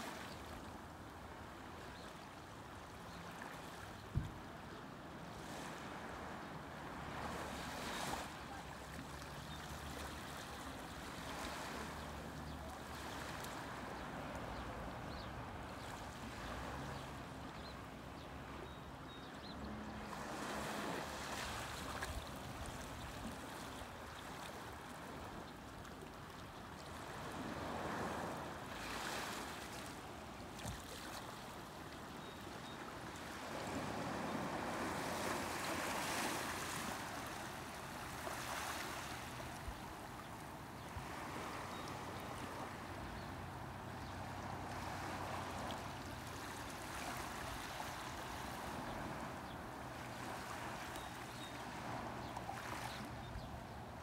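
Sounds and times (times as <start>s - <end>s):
waves lapping on a shore: 0.0s - 54.0s.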